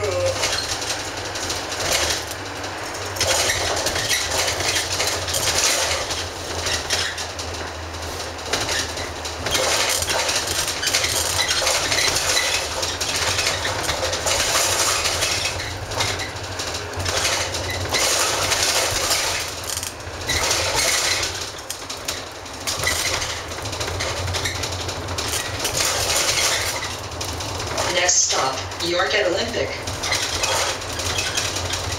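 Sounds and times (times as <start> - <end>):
bus engine and tyres rumbling: 0.0 - 31.9
interior fittings rattling: 0.0 - 31.9.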